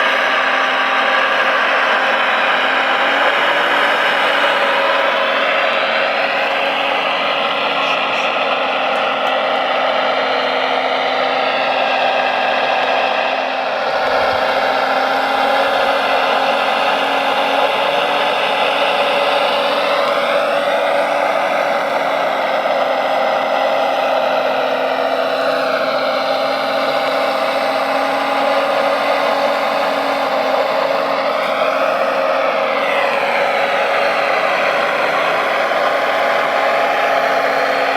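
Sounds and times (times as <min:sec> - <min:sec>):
electric motors whining: 0:00.0 - 0:37.9.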